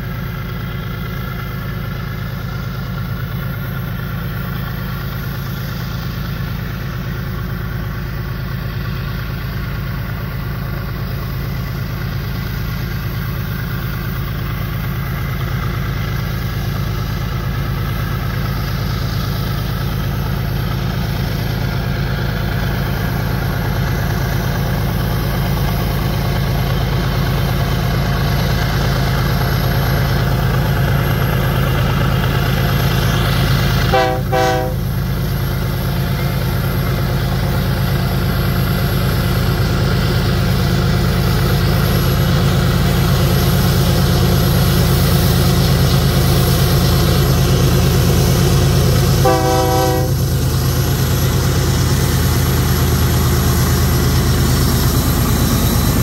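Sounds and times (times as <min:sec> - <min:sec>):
locomotive diesel engine running: 0:00.0 - 0:56.0.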